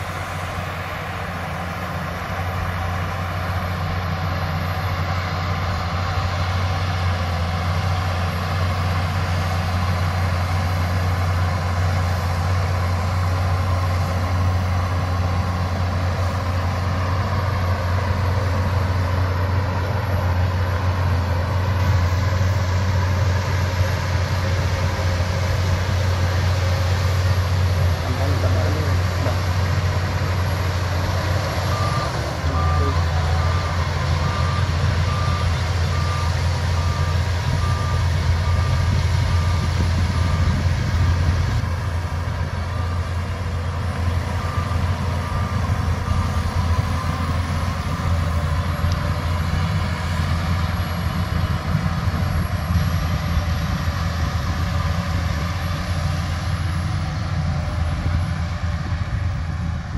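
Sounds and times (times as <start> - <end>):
bulldozer diesel engine running: 0.0 - 59.9
reversing alarm beeping: 0.1 - 58.2.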